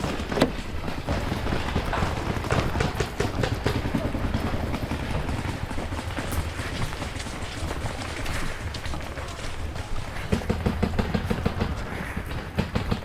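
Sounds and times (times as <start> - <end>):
running footsteps on ground: 0.0 - 13.0.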